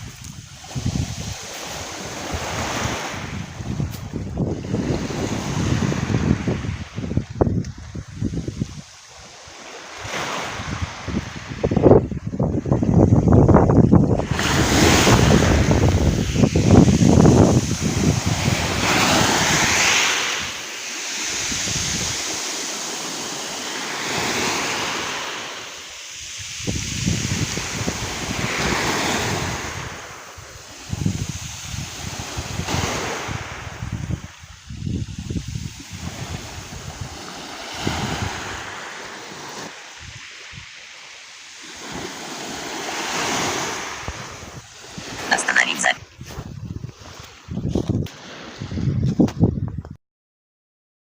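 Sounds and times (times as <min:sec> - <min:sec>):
wind on microphone: 0:00.0 - 0:40.8, 0:41.6 - 0:50.0
sea waves washing ashore: 0:00.0 - 0:49.6.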